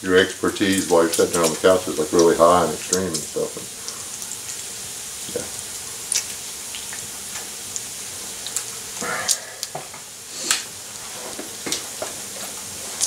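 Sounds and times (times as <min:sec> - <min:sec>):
bacon sizzling: 0:00.0 - 0:13.0.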